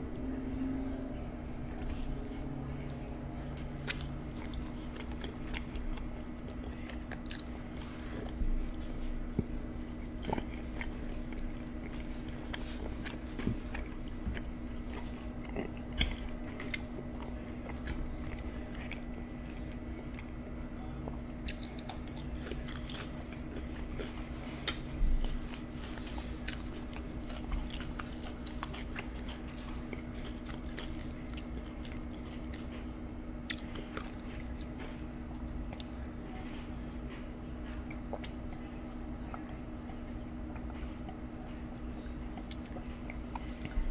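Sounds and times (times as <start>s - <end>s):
steady low hum: 0.0s - 43.9s
chewing and wet mouth sounds: 1.4s - 43.9s.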